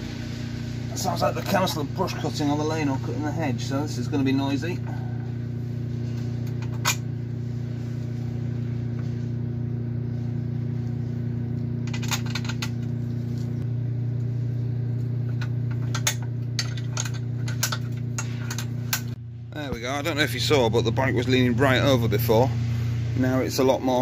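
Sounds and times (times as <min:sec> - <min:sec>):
hedge cutter engine drone: 0:00.0 - 0:24.0.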